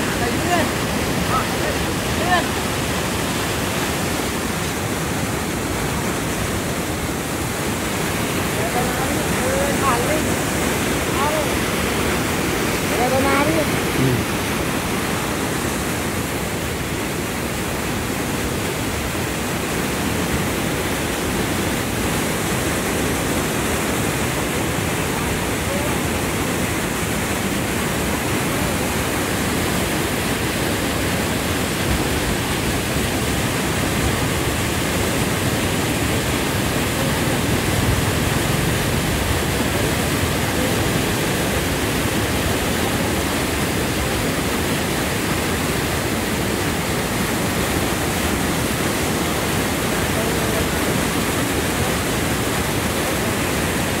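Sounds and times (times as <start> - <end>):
water rushing through channel: 0.0 - 54.0.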